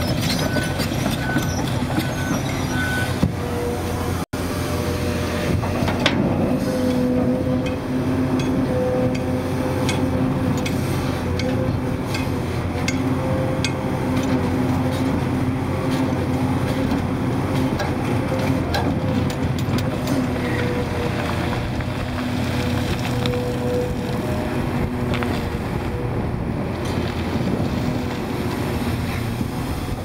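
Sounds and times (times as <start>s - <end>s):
diesel engine working with whine: 0.0s - 30.0s.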